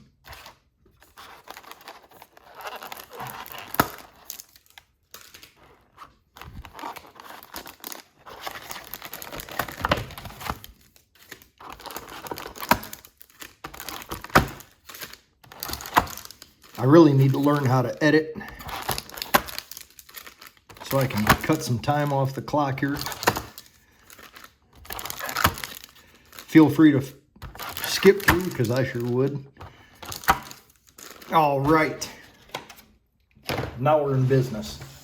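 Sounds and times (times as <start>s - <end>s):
cardboard tearing: 0.0s - 17.8s, 18.5s - 29.3s, 30.0s - 32.8s
card packs crinkling: 0.0s - 33.0s.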